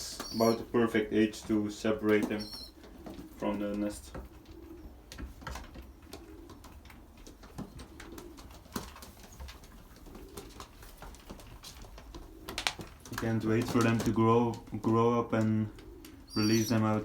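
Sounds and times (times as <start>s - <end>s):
pigeons cooing softly: 0.0s - 17.0s.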